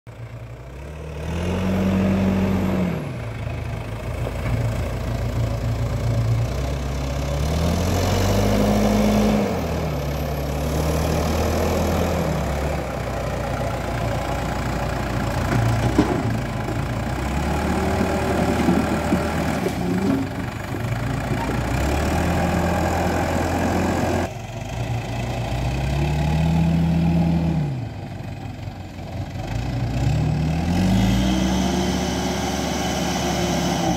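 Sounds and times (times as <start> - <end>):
backhoe loader diesel engine revving: 0.1 - 33.9
tractor diesel engine running: 0.1 - 33.9.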